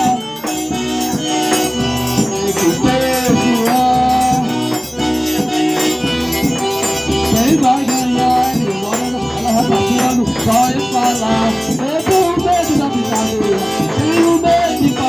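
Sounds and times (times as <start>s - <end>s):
button accordion melody: 0.0s - 15.0s
shaker rhythm: 0.0s - 15.0s.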